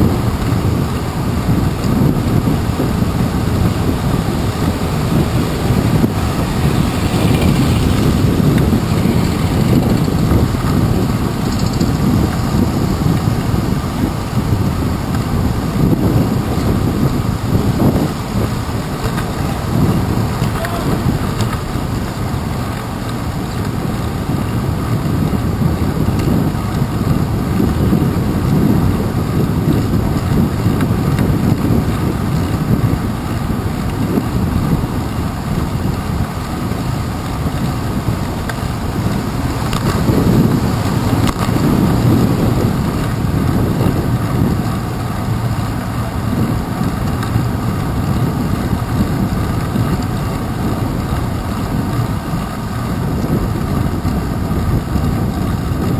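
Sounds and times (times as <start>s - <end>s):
bicycle rolling on wet path: 0.0s - 55.9s
wind noise on microphone: 0.0s - 55.9s.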